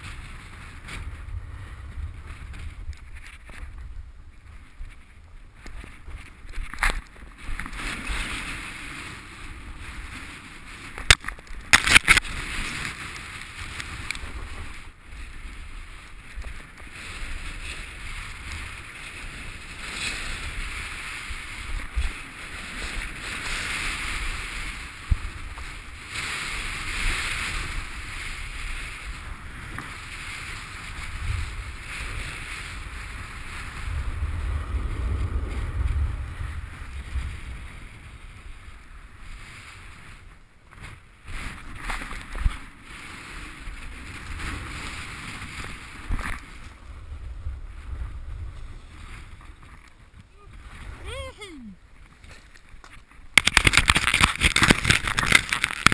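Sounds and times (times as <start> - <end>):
skis scraping on snow: 0.0 - 51.1, 51.8 - 55.9
wind buffeting microphone: 0.0 - 55.9.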